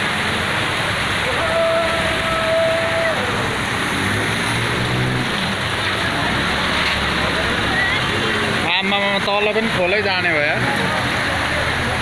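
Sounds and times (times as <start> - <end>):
floodwater rushing: 0.0 - 12.0
rain: 0.0 - 12.0.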